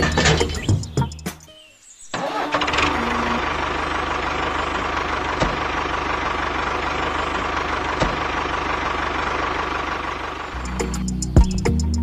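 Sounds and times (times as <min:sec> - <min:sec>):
diesel tractor engine idling: 0:02.2 - 0:12.0.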